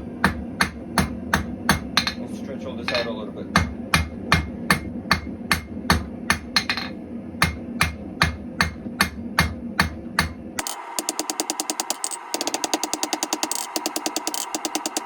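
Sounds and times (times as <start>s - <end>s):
hammer striking metal on anvil: 0.0s - 15.0s
steady hum: 0.0s - 15.0s.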